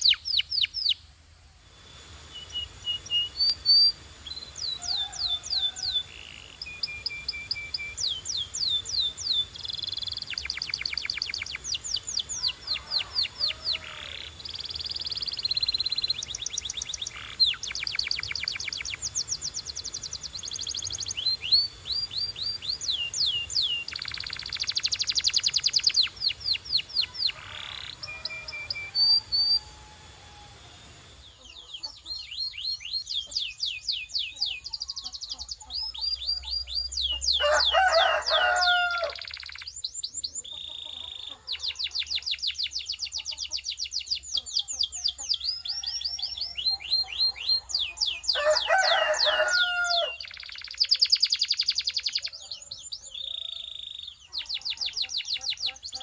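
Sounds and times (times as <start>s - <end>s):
canary singing trills: 0.0s - 1.1s, 1.7s - 56.0s.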